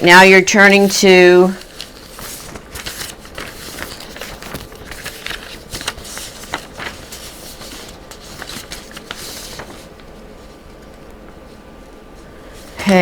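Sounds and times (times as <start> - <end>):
paper rustling: 0.5 - 11.6
book pages flipping: 0.8 - 11.5.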